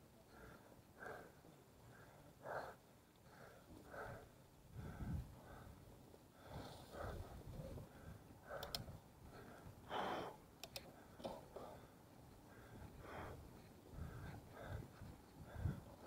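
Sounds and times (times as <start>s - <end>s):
person breathing hard: 0.3s - 16.0s.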